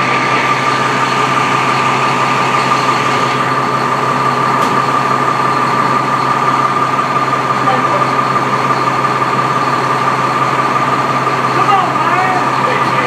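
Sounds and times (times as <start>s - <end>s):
diesel engine idling: 0.0s - 13.0s
high-pitched whine: 0.0s - 13.0s.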